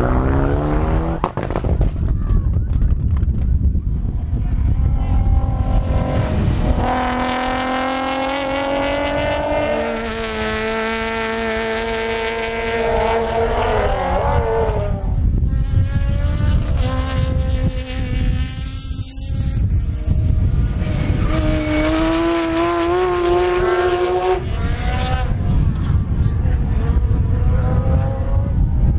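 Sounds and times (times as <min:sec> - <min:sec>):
racing car engine passing by: 0:00.0 - 0:01.6, 0:04.6 - 0:28.8
wind rumbling on microphone: 0:00.0 - 0:28.9
another car engine: 0:04.1 - 0:28.8.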